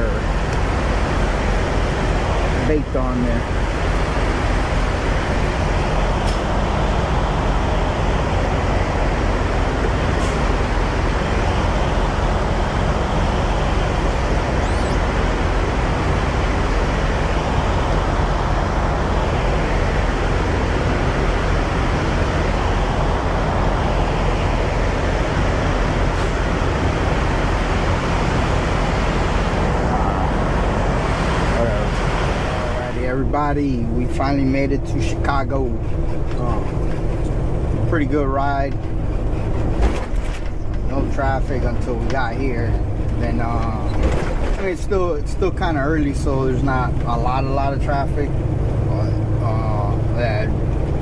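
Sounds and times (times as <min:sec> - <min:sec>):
road noise: 0:00.0 - 0:51.0
truck engine drone: 0:00.0 - 0:51.0.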